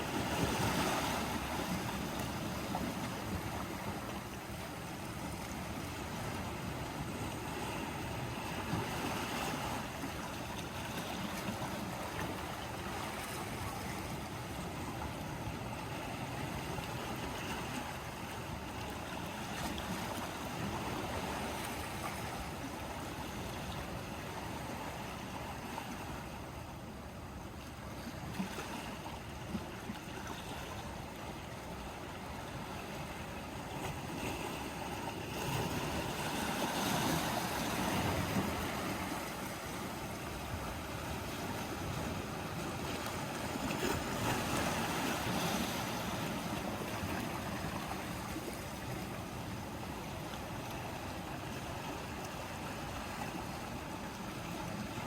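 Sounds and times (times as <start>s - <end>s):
waves washing on rocky shore: 0.0s - 55.0s.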